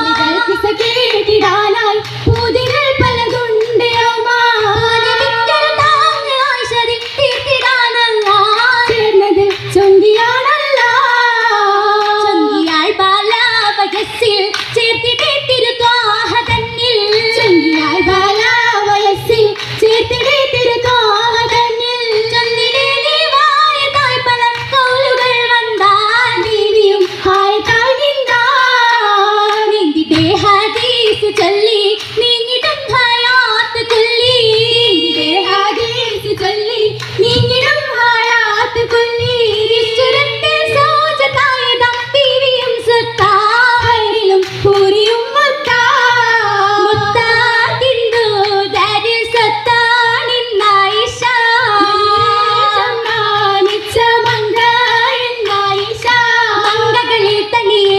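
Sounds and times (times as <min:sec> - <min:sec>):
girls singing through speakers: 0:00.0 - 0:57.9.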